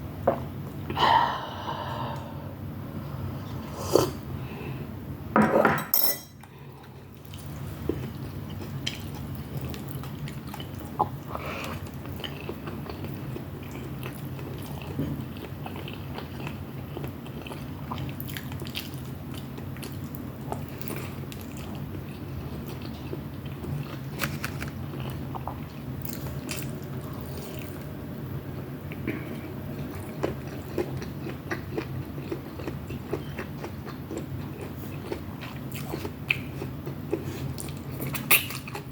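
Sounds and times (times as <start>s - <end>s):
steady low hum: 0.0s - 38.9s
person chewing food: 6.4s - 38.9s.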